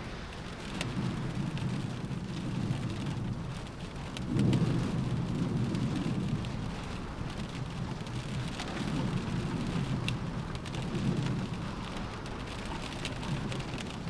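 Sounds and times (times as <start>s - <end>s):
rain against window glass: 0.0s - 14.0s.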